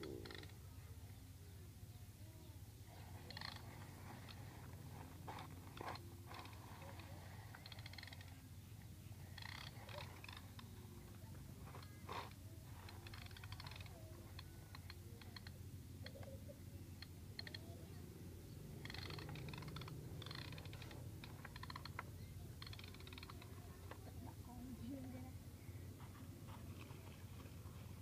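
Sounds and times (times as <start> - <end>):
scattered ticks: 0.0 - 0.6, 2.9 - 25.2
steady low hum: 0.0 - 28.0.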